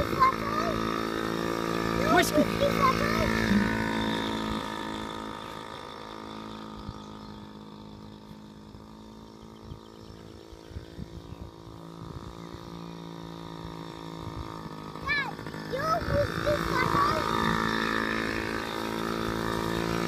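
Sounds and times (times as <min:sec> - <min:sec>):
mini dirt bike engine: 0:00.0 - 0:20.0.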